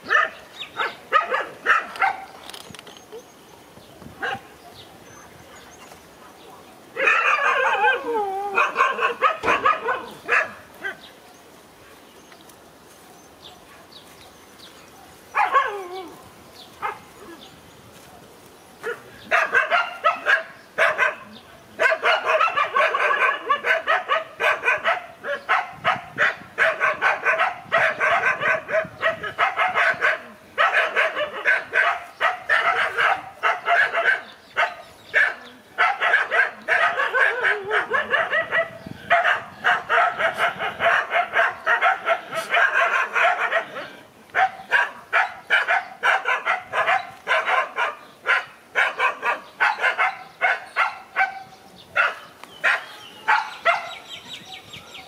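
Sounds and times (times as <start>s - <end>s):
dogs barking: 0.0s - 2.4s, 4.2s - 11.2s, 15.0s - 16.2s, 16.8s - 17.4s, 18.8s - 55.0s.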